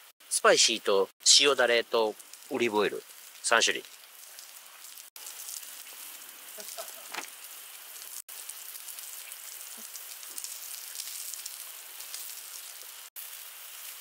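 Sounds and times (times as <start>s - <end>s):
scallops sizzling on a griddle: 1.3s - 14.0s.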